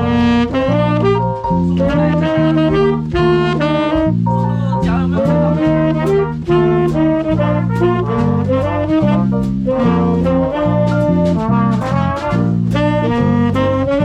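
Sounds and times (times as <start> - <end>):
swing big band playing: 0.0 - 14.0.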